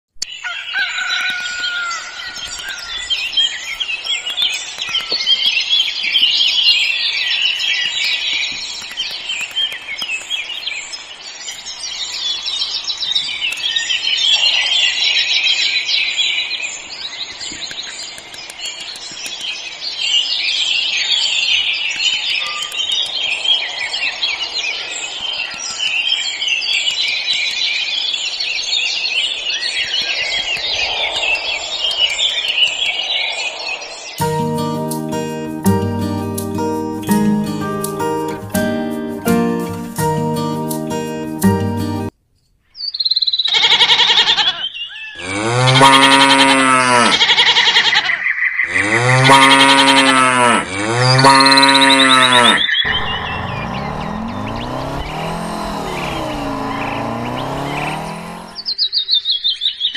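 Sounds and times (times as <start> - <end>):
small birds chirping: 0.1 - 38.0, 42.4 - 59.9.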